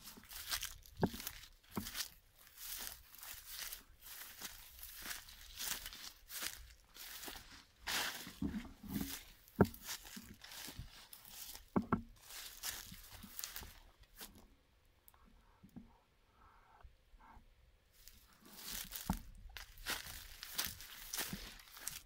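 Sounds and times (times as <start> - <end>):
footsteps through dry brush: 0.0 - 14.4, 18.0 - 22.0.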